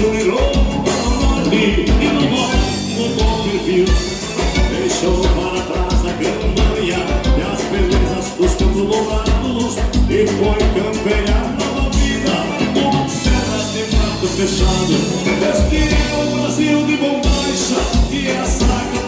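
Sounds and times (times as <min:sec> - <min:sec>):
accordion-led dance band music: 0:00.0 - 0:19.0
bass drum beat: 0:00.0 - 0:19.0.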